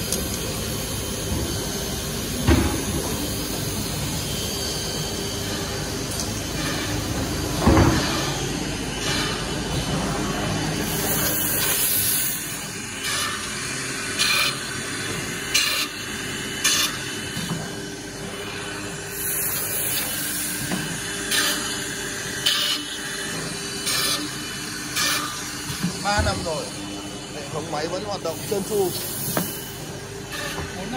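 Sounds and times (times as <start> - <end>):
steady machine hum: 0.0 - 30.9.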